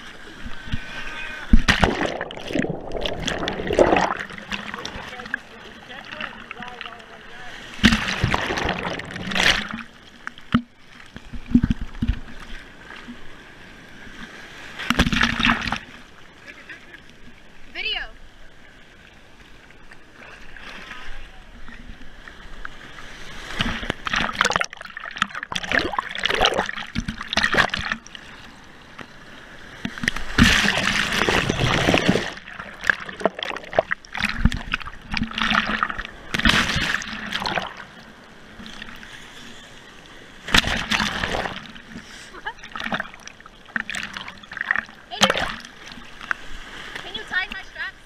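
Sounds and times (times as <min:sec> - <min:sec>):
surf splashing and gurgling: 0:00.0 - 0:48.0.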